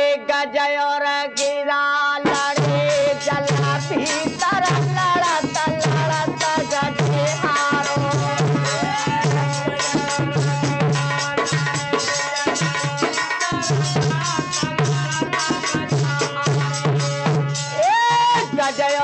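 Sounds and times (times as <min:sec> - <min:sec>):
harmonium melody: 0:00.0 - 0:17.8, 0:18.4 - 0:19.0
dholak drum rhythm: 0:00.0 - 0:19.0.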